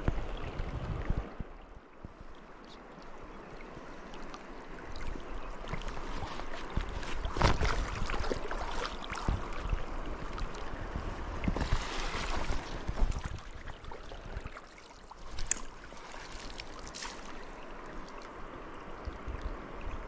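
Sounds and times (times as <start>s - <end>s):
river water splashing over rocks: 0.0s - 20.0s.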